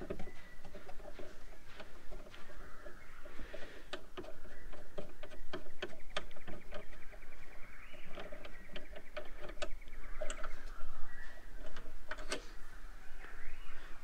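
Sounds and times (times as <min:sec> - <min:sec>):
small clicks taps and scrapes: 0:00.0 - 0:07.3, 0:07.9 - 0:12.5.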